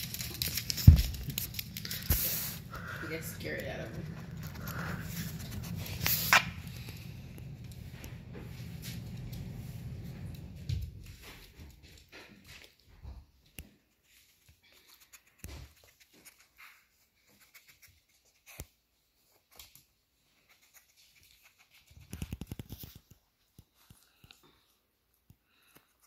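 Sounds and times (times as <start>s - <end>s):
puppy scuffling and clicking: 0.0s - 2.8s, 3.4s - 25.7s.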